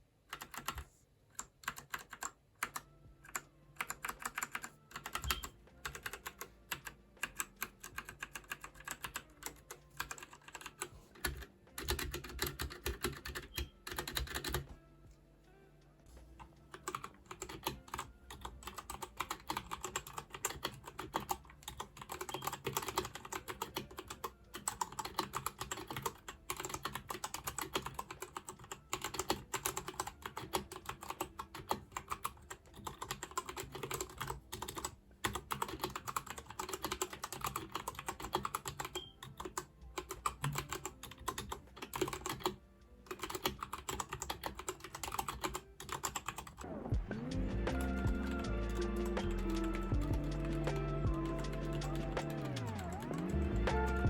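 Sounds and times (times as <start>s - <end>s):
mechanical keyboard typing: 0.3s - 14.7s, 16.7s - 46.7s, 47.7s - 54.0s.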